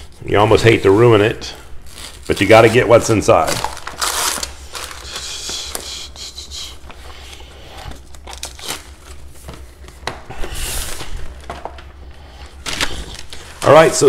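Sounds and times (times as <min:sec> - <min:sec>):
paper wrapping crinkling: 0:01.8 - 0:14.0.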